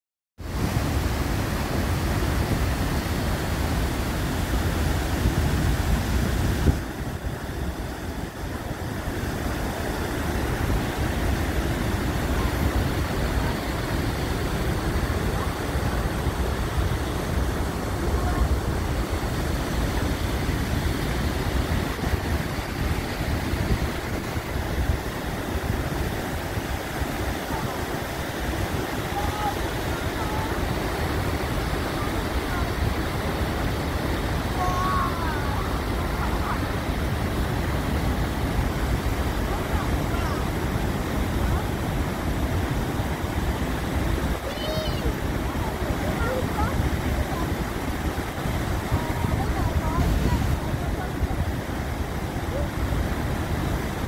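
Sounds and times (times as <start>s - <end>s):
waterfall rushing: 0.4s - 54.0s.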